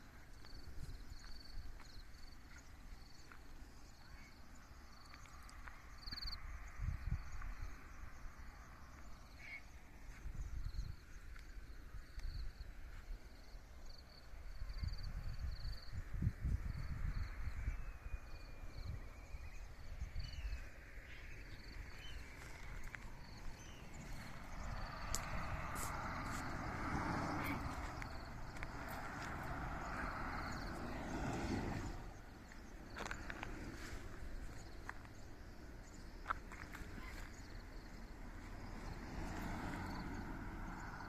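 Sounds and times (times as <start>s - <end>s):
insects or birds chirping: 0.0s - 41.0s.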